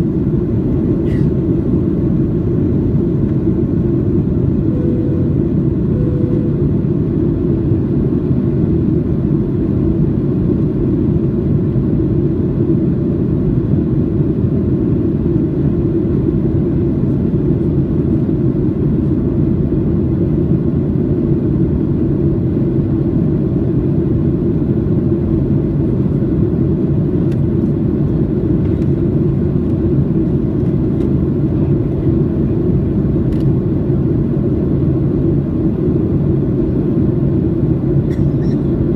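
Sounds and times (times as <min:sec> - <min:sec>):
airplane cabin engine roar: 0:00.0 - 0:38.9.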